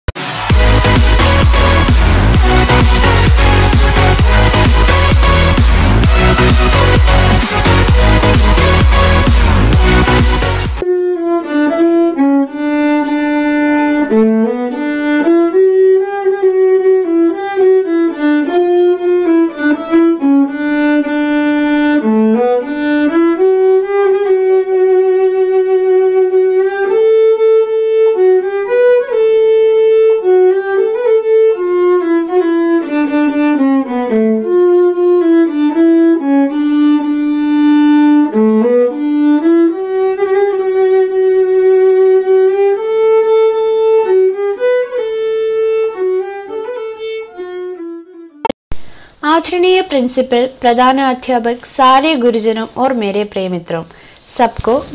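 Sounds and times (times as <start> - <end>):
slow violin melody: 0.1 - 49.2.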